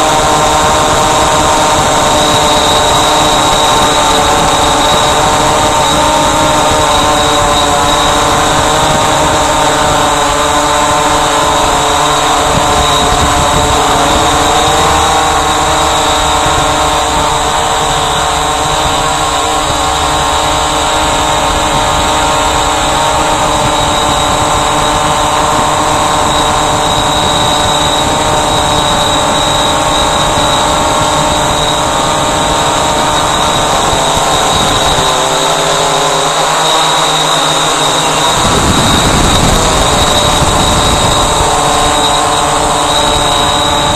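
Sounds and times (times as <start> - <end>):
drone propellers whining: 0.0 - 43.9
wind rumble on microphone: 0.0 - 43.9.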